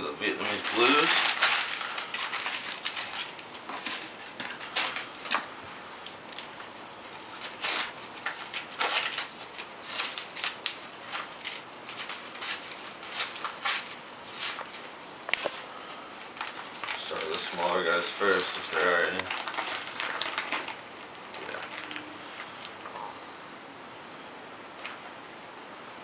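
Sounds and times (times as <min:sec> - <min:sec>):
packaging rustling and crinkling: 0:00.2 - 0:22.9.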